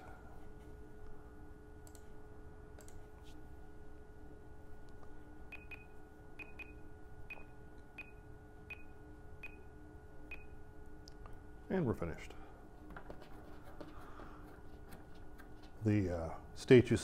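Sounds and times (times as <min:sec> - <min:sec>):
faint electronic hum: 0:00.0 - 0:17.0.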